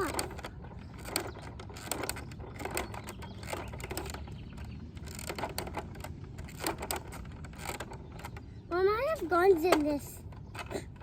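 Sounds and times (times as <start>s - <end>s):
toy crane plastic clicking and rattling: 0.0s - 11.0s.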